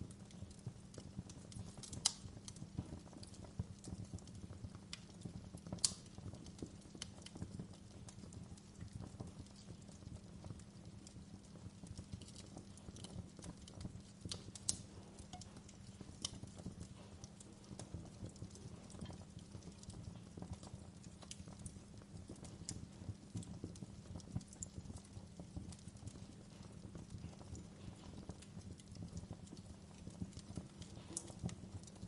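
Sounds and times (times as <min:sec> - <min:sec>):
low fire rumble: 0:00.0 - 0:32.0
wood fire crackling and popping: 0:00.0 - 0:32.0.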